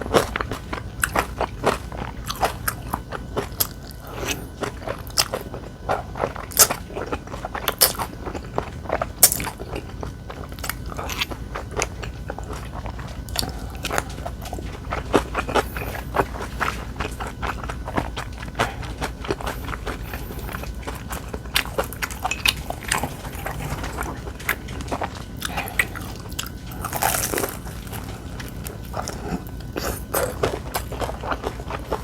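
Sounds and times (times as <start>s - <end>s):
chewing crunchy food: 0.0s - 32.0s.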